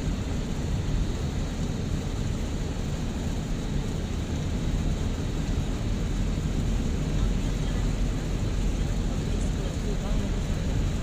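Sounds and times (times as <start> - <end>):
road and tyre rumble inside car: 0.0 - 11.0.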